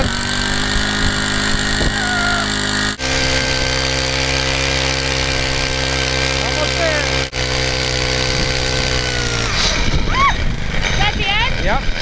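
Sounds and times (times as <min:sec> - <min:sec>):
ice auger engine running: 0:00.0 - 0:12.0.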